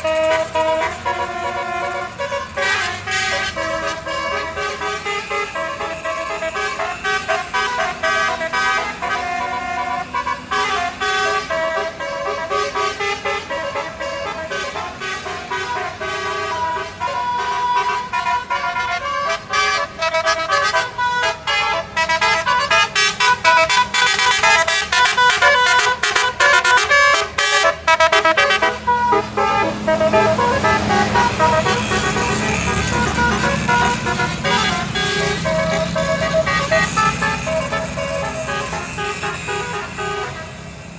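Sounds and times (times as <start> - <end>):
multi-tone bus horn melody: 0.0 - 40.9.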